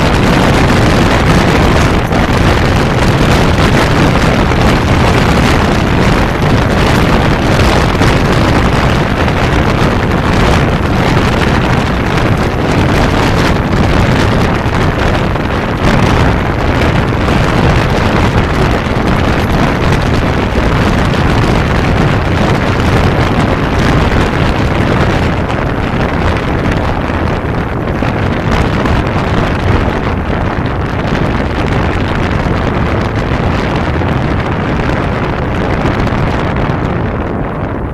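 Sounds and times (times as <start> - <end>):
motorcycle engine: 0.0 - 37.9
road noise: 0.0 - 37.9
wind rush on microphone: 0.0 - 37.9.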